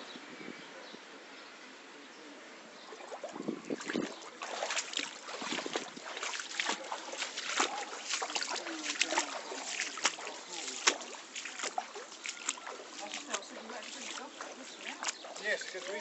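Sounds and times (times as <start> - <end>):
floodwater splashing: 2.8 - 16.0.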